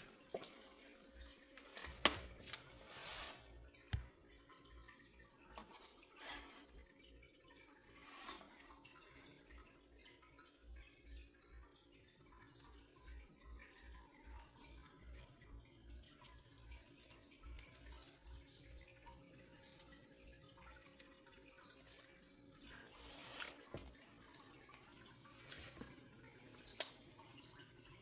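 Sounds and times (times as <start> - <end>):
water dripping and trickling: 0.0 - 28.0.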